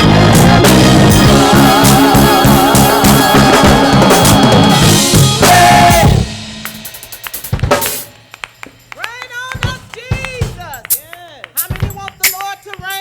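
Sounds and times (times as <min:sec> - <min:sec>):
gospel band playing: 0:00.0 - 0:12.7
drum and cymbal hits: 0:00.0 - 0:13.0.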